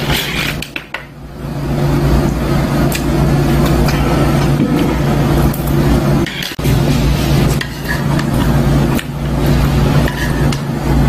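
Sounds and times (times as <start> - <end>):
low machine hum with rush: 0.0 - 11.0.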